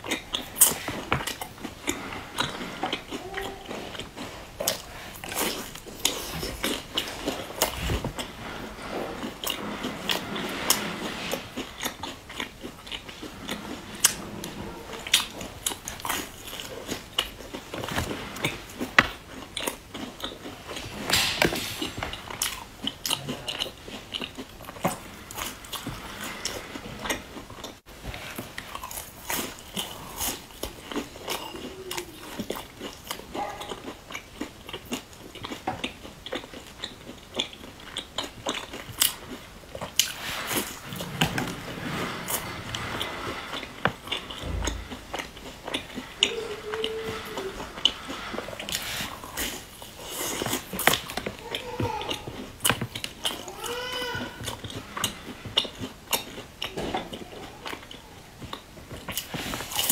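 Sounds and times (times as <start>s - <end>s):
biting and chewing biscuit: 0.0s - 59.9s.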